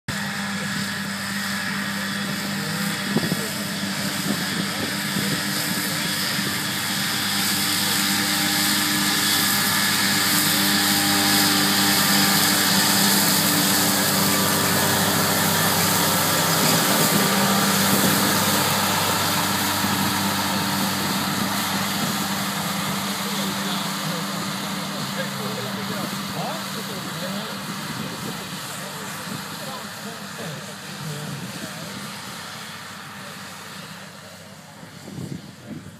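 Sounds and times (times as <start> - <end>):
mower whirring hiss: 0.1 - 35.9
tractor engine hum: 0.1 - 35.9.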